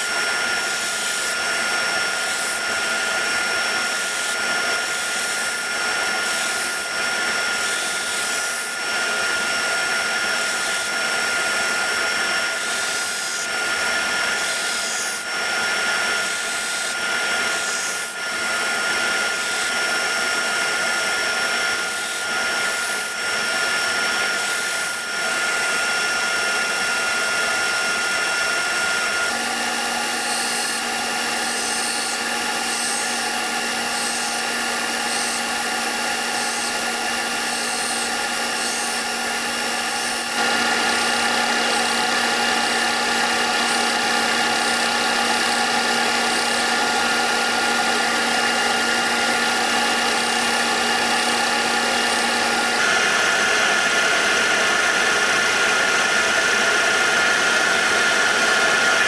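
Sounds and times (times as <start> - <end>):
power tool whining: 0.0 - 59.0.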